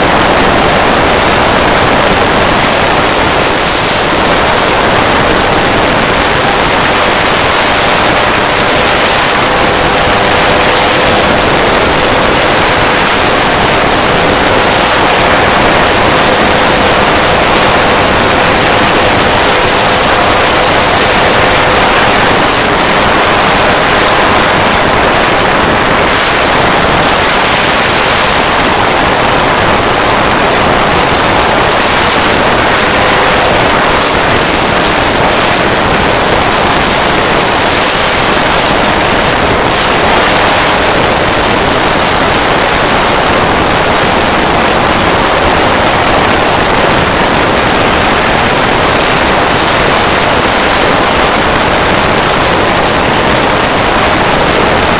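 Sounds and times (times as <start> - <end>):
aircraft engine running: 0.0 - 54.9
wind rushing over microphone: 0.0 - 54.9.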